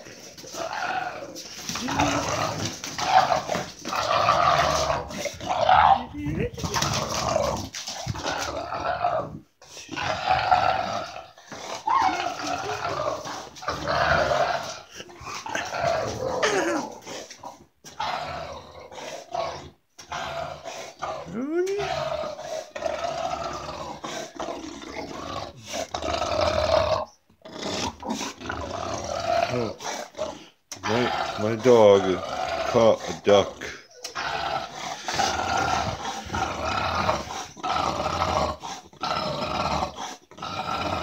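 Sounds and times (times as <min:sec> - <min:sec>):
dog growling and grunting: 0:00.0 - 0:41.0.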